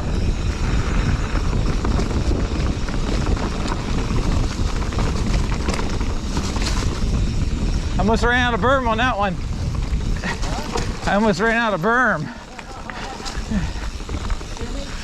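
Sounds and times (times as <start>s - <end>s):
bike clicks and rattles: 0.0s - 15.0s
tyres rumbling on dirt: 0.0s - 15.0s
wind buffeting microphone: 0.0s - 15.0s.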